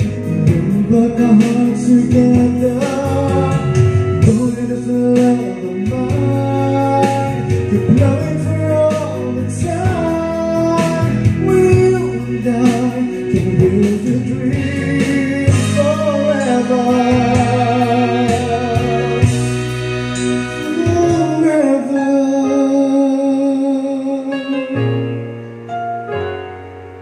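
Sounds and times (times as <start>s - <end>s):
guitar accompaniment: 0.0s - 27.0s
person singing karaoke: 0.0s - 27.0s.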